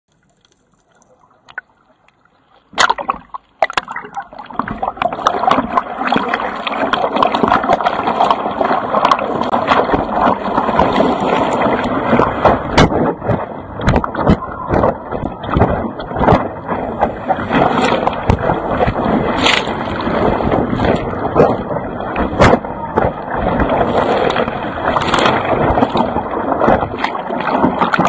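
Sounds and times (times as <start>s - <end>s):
muffled water: 0.1s - 28.0s
seawater rushing and splashing: 1.1s - 28.0s.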